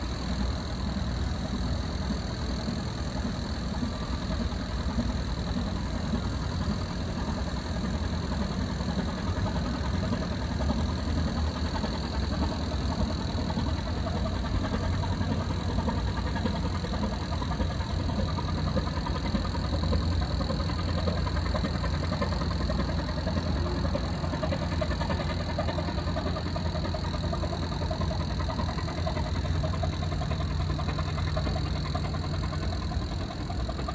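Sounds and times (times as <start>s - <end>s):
diesel engine drone: 0.0s - 33.9s.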